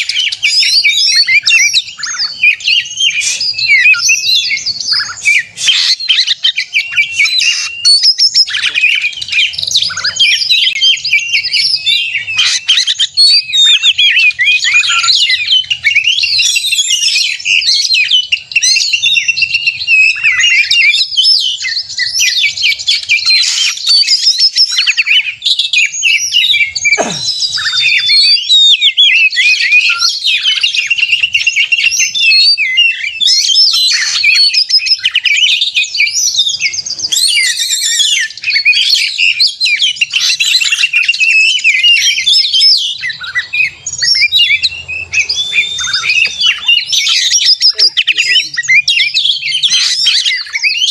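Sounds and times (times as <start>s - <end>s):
bird song with chirps and trills: 0.0s - 50.9s.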